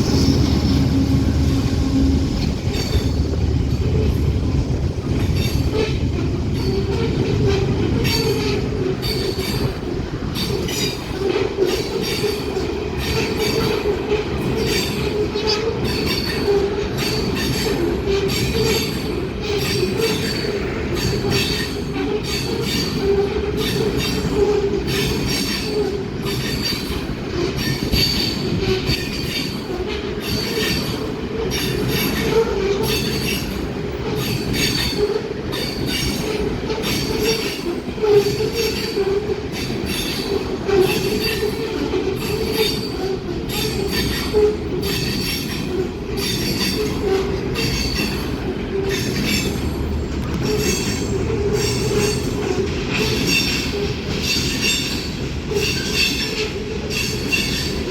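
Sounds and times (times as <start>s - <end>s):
freight train cars rolling: 0.0s - 57.9s
steel wheels squealing on rails: 0.0s - 57.9s
wheels clacking over rail joints: 0.0s - 57.9s.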